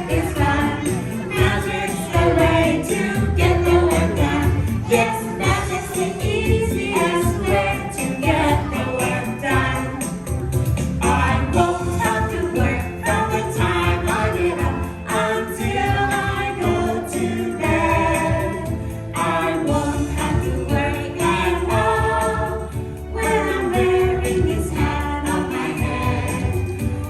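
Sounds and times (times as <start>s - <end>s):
backing music: 0.0s - 27.0s
voices singing together: 0.0s - 27.0s.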